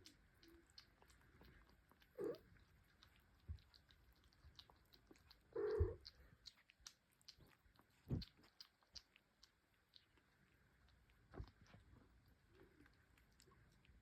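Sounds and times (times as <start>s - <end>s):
cats licking wet smacking: 0.0s - 14.0s.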